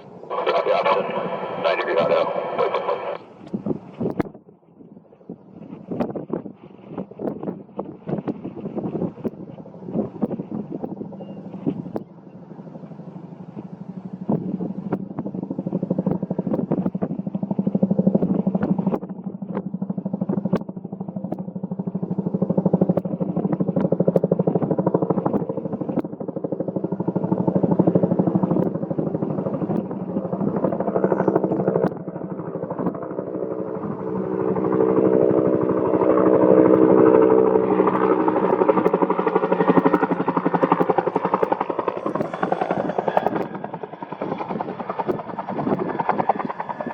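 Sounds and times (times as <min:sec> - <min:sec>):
helicopter engine drone: 0:00.0 - 0:46.9
helicopter rotor beating: 0:00.0 - 0:46.9.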